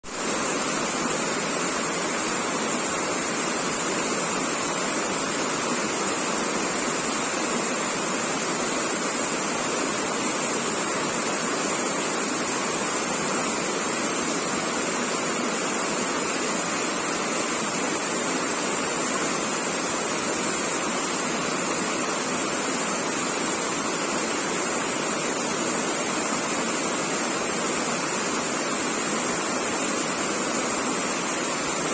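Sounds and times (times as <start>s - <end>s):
rain: 0.0s - 31.9s
water flowing: 0.0s - 31.9s.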